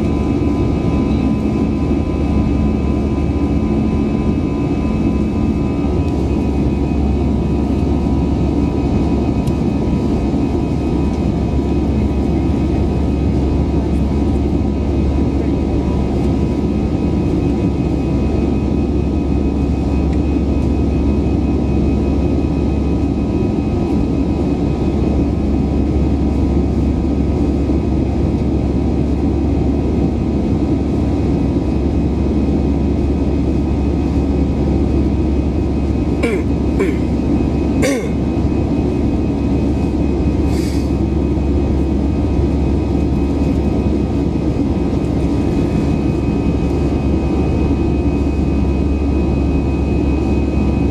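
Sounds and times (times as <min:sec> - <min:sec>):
jet engine cabin rumble: 0:00.0 - 0:50.9.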